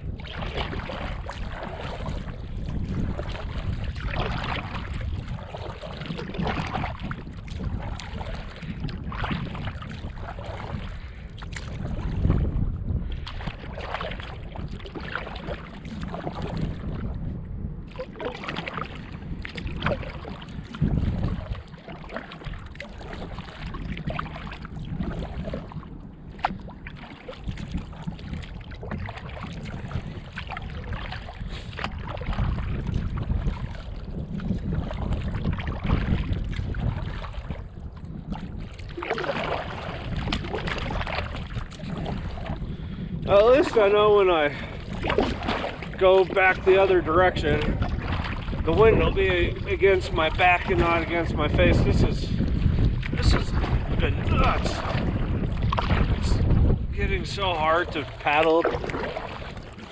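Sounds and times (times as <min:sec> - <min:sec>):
water splashing around a canoe: 0:00.0 - 0:59.9
wind buffeting the microphone: 0:00.0 - 0:59.9.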